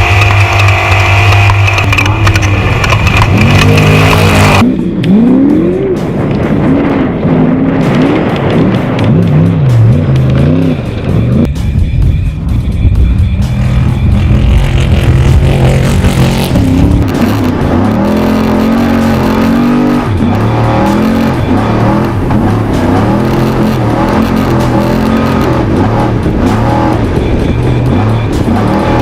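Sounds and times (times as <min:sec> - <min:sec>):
race truck engine revving: 0:00.0 - 0:11.5, 0:13.4 - 0:29.0.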